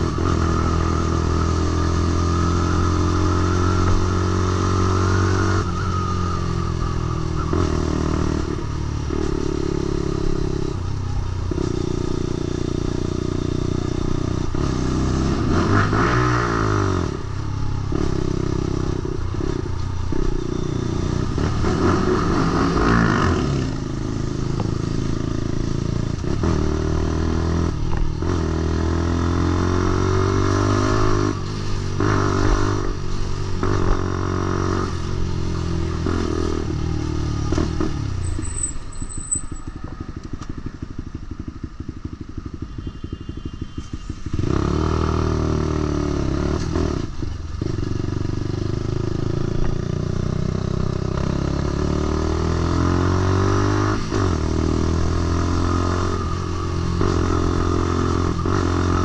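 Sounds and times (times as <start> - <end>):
motorcycle engine revving: 0.0 - 43.2, 44.0 - 59.0.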